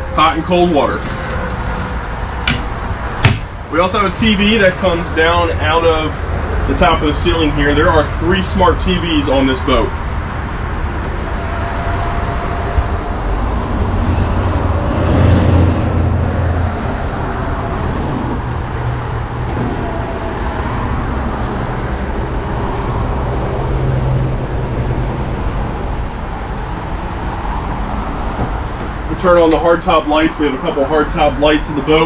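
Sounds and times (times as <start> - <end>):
steady low rumble: 0.0 - 32.0.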